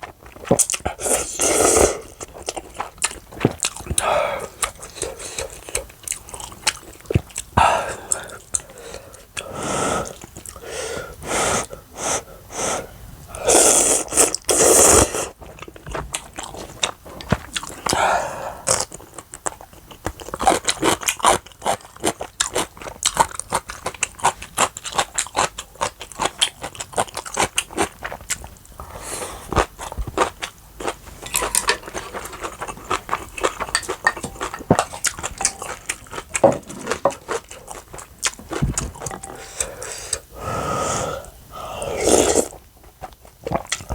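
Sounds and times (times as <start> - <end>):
person chewing crunchy food: 0.0 - 9.4, 13.7 - 18.0, 18.6 - 40.3, 41.2 - 43.9.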